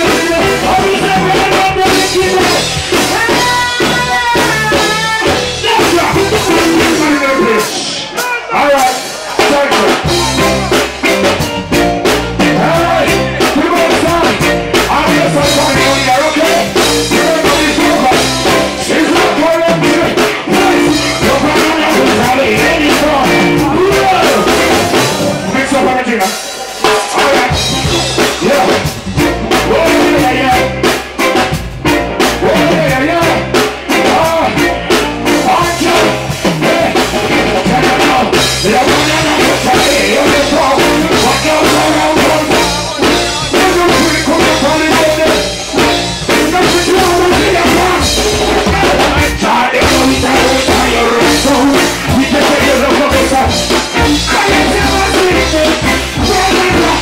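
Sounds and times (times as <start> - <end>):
drum kit: 0.0 - 57.0
person singing: 0.0 - 57.0
reggae band music: 0.0 - 57.0.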